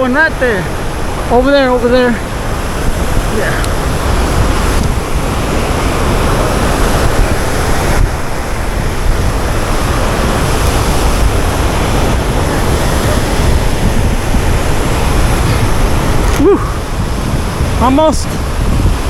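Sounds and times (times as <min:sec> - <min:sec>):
water rushing from dam outlet: 0:00.0 - 0:19.0.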